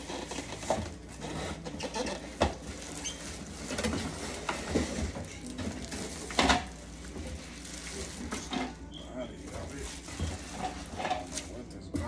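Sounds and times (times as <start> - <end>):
packaging rustling: 0.0 - 8.8, 9.4 - 11.6.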